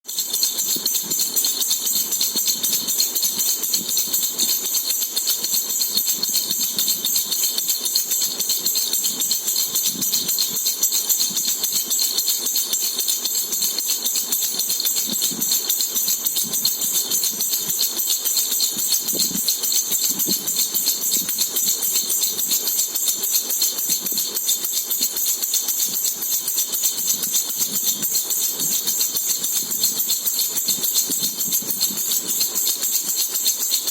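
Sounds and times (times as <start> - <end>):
baby rattle jingling: 0.1 - 33.9.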